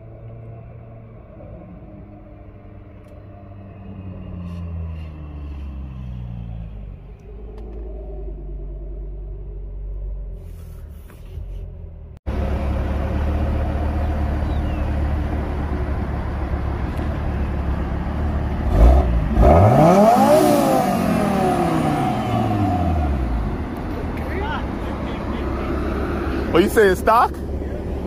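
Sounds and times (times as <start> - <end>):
car engine idling: 0.0 - 28.0
car engines running: 0.0 - 28.0.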